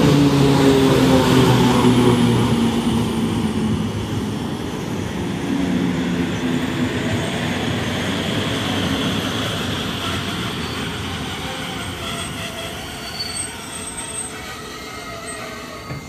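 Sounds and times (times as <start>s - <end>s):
train rumbling past on rails: 0.0s - 16.0s.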